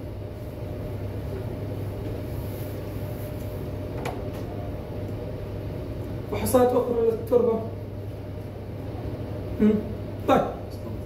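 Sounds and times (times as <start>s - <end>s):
room hum and rumble: 0.0s - 11.0s.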